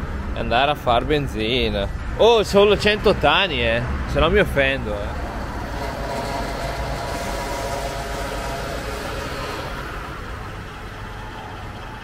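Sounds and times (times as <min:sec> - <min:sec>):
vehicle engine low rumble: 0:00.0 - 0:12.0
high whine: 0:01.9 - 0:12.0.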